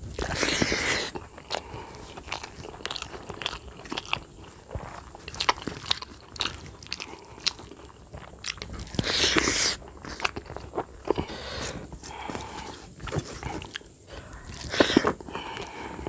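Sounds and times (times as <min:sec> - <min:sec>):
wet chewing and lip smacking: 0:00.1 - 0:16.0.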